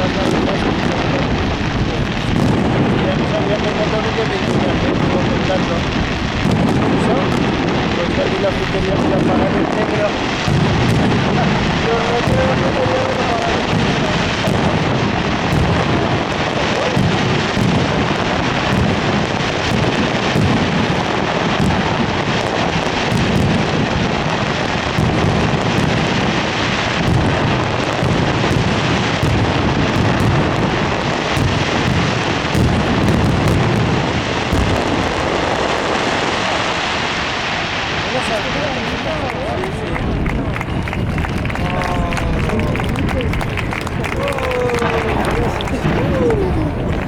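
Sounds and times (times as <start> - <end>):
fireworks booming: 0.0 - 47.0
fireworks crackling: 0.0 - 47.0.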